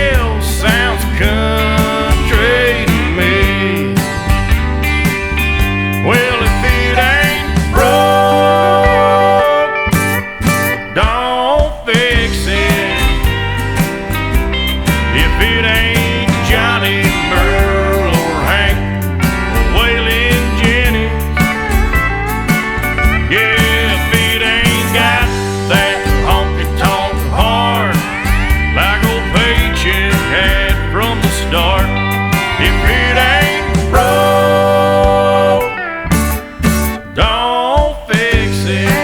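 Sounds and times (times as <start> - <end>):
instrumental country music: 0.0 - 39.0.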